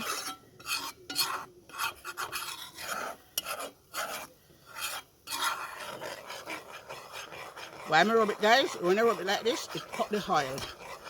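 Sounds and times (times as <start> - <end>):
coconut rasping under hand: 0.0 - 11.0.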